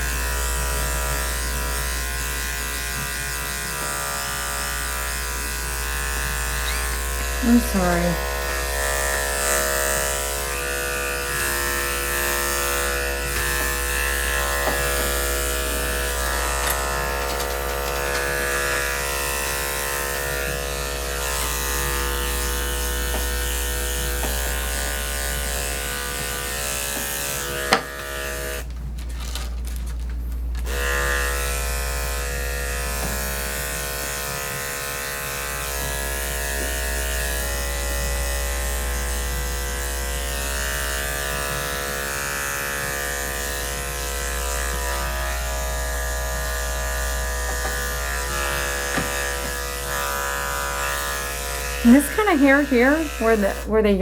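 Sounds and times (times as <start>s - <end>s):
electric clippers humming: 0.0s - 54.0s.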